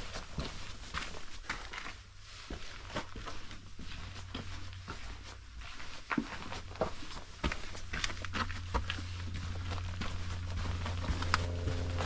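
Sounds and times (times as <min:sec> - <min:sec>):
footsteps crunching and scuffing: 0:00.0 - 0:12.0.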